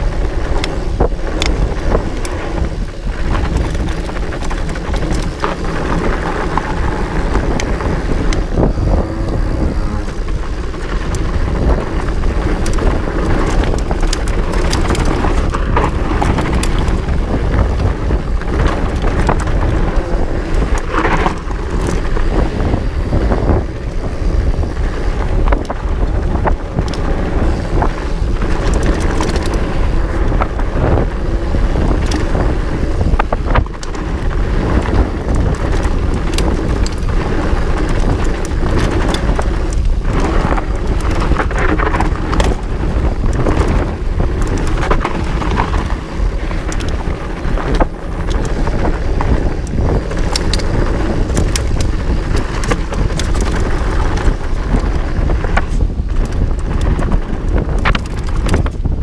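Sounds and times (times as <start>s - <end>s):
bike rattling over bumps: 0.0s - 59.0s
tyres rumbling on dirt: 0.0s - 59.0s
wind buffeting microphone: 0.0s - 59.0s.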